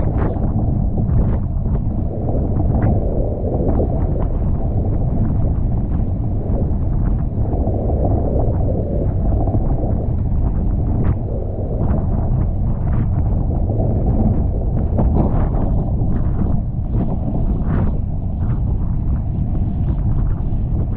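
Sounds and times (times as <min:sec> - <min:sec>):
water rushing along hulls: 0:00.0 - 0:20.9
wind buffeting microphone: 0:00.0 - 0:20.9.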